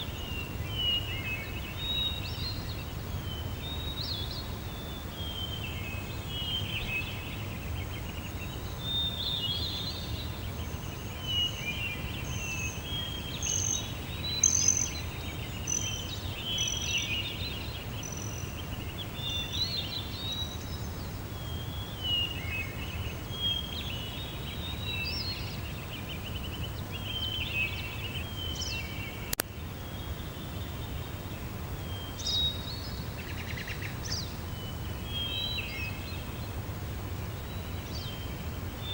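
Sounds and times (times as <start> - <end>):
wild birds singing and calling: 0.0 - 36.6, 37.2 - 38.9.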